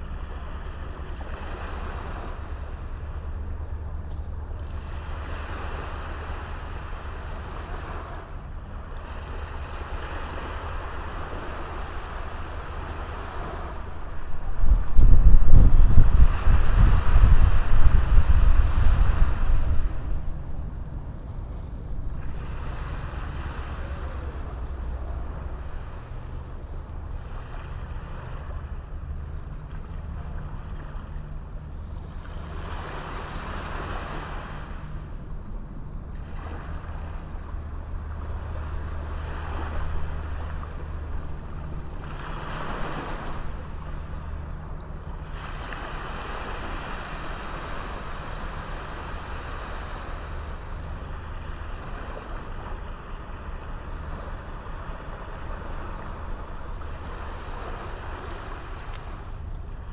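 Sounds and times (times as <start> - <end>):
sea waves breaking on beach: 0.0 - 59.9
wind rumble on microphone: 0.0 - 59.9.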